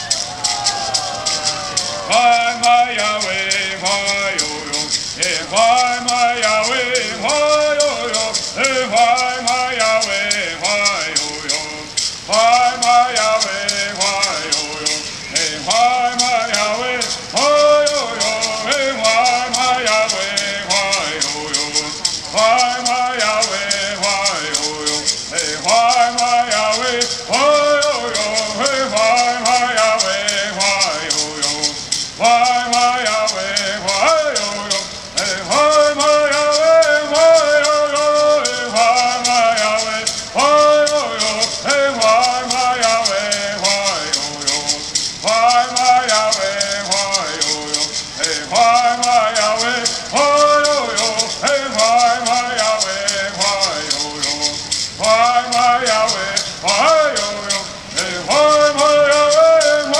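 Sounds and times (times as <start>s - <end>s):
gourd rattles shaking: 0.0s - 59.9s.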